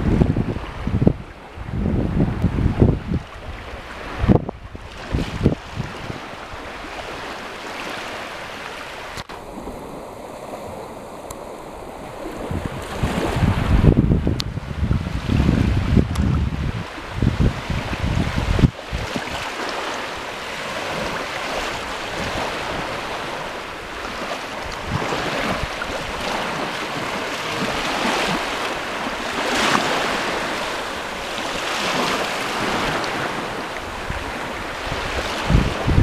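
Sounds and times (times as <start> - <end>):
shallow water rushing and lapping: 0.0 - 36.0.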